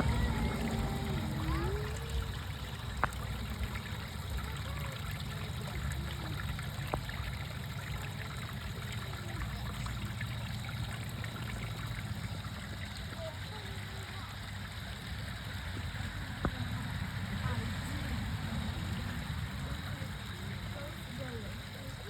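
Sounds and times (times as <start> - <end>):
water fountain trickling: 0.0 - 22.0.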